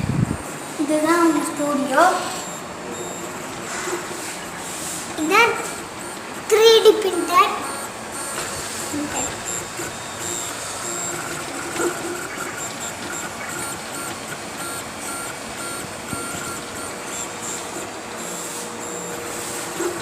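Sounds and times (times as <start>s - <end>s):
steady background hum: 0.0s - 20.0s
stepper motors whining: 0.0s - 20.0s.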